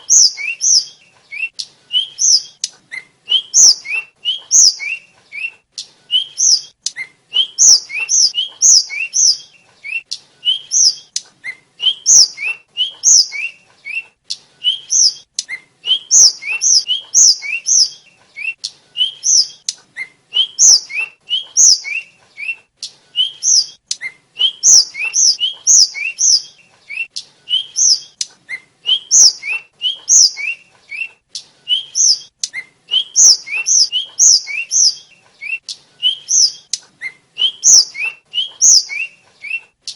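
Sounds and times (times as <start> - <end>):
bird whistled song: 0.0 - 39.9.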